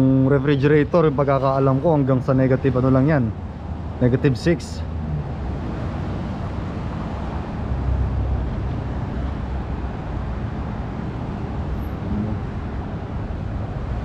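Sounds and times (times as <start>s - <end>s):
rumble of car traffic: 0.0s - 14.0s.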